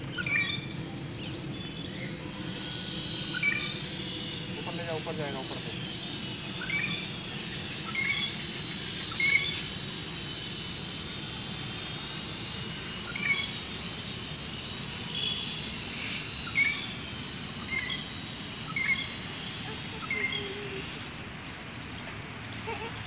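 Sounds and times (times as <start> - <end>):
birds chirping: 0.0 - 23.0
outdoor background hum: 0.0 - 23.0.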